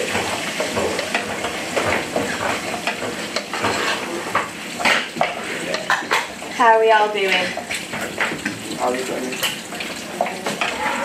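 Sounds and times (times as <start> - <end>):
vegetables sizzling in a saucepan: 0.0 - 11.0
wooden spoon scraping a pan: 0.0 - 11.0.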